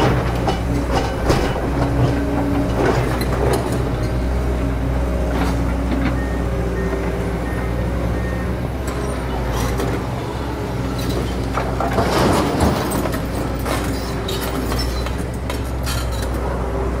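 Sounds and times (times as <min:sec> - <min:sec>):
excavator arm and bucket clanks: 0:00.0 - 0:17.0
excavator diesel engine running: 0:00.0 - 0:17.0.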